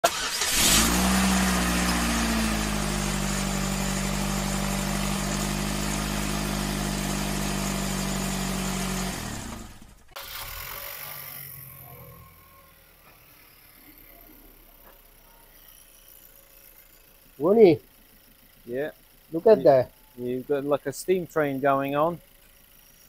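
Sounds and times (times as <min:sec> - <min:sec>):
car engine starting and idling: 0:00.0 - 0:23.0.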